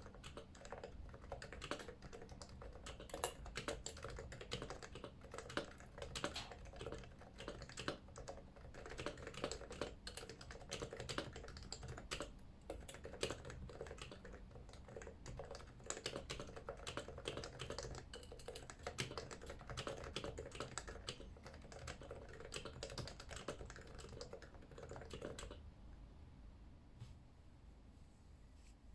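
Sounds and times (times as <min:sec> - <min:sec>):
typing on keyboard: 0:00.0 - 0:25.6.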